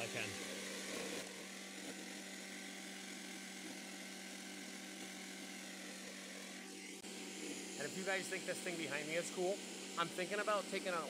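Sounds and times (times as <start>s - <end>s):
vibrating sander humming: 0.0s - 11.0s.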